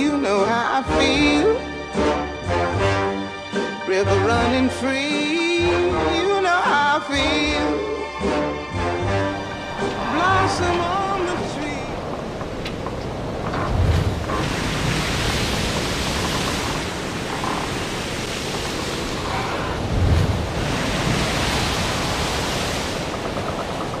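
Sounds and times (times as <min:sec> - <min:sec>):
ocean waves rushing: 0:00.0 - 0:24.0.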